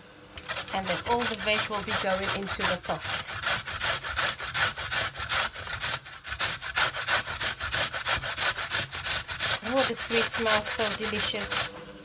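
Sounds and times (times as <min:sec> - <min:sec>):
vegetable grated on box grater: 0:00.4 - 0:11.9.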